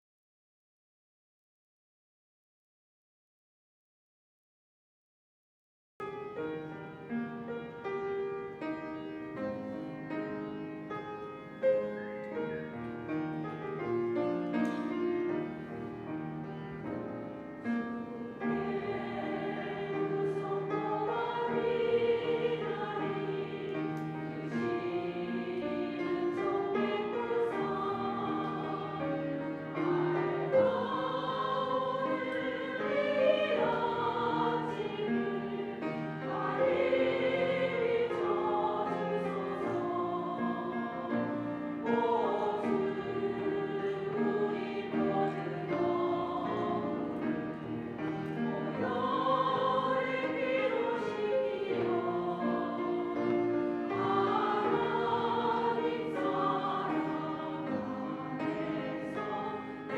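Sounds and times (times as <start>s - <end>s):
piano accompaniment: 6.0s - 59.9s
women's choir singing a hymn: 6.4s - 59.9s.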